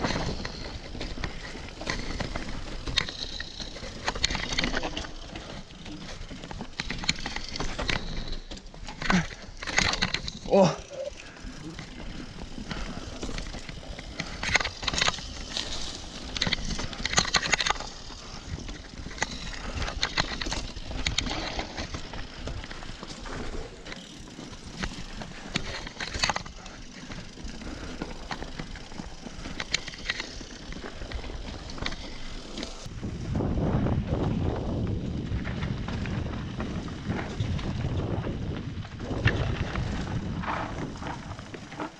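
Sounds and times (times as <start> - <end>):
bike clicks and rattles: 0.0 - 41.9
bike tyres rolling over dirt: 0.0 - 41.9.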